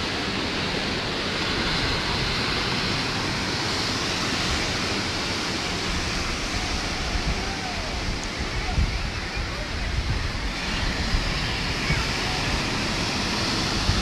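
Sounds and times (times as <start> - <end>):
waves breaking: 0.0 - 14.0.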